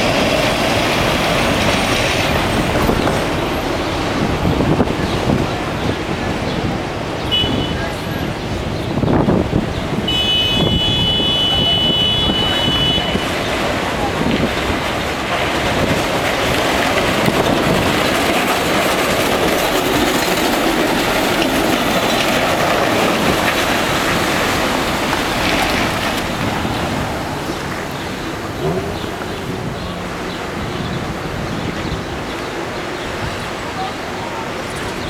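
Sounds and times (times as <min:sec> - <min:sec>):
tram rolling on rails: 0:00.0 - 0:35.0.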